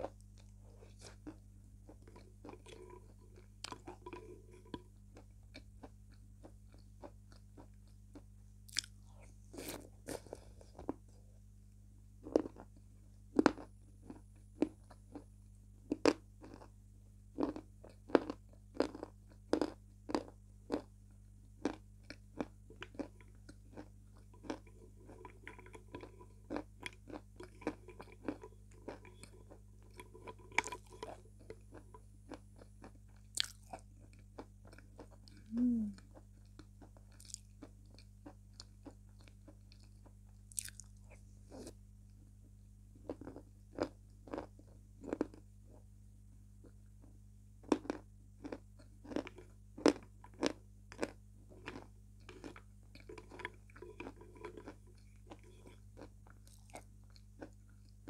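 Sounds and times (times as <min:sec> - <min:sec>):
crunching and chewing chalk: 0:00.0 - 0:11.3, 0:12.2 - 0:41.8, 0:42.9 - 0:45.9, 0:46.6 - 0:58.0.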